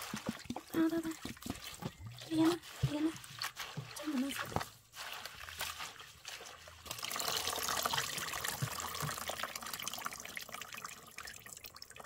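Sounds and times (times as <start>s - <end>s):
water drips: 0.0s - 4.4s, 5.0s - 12.0s
water running and splattering: 0.0s - 12.0s.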